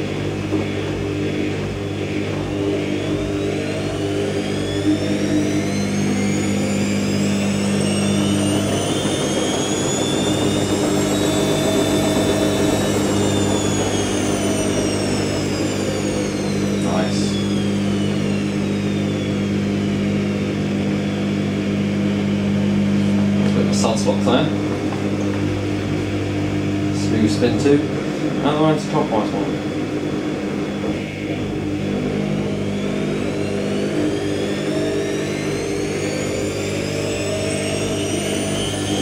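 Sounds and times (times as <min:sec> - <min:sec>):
steady low hum: 0:00.0 - 0:39.0
washing machine motor whining: 0:00.0 - 0:39.0.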